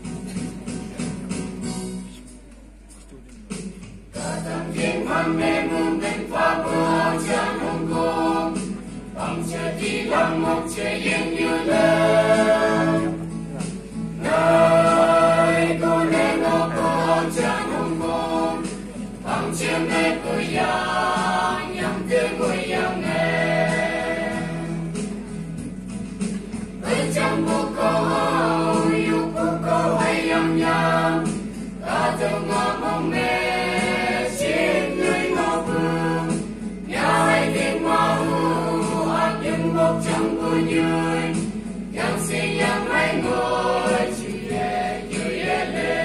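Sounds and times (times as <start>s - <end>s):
mixed choir singing an anthem: 4.1s - 25.4s, 26.4s - 46.0s.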